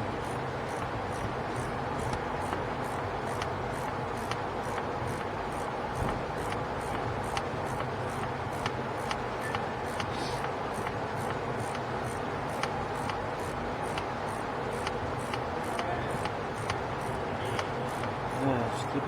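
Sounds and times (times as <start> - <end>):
ratchet wrench clicking: 0.2 - 5.7, 6.4 - 18.1.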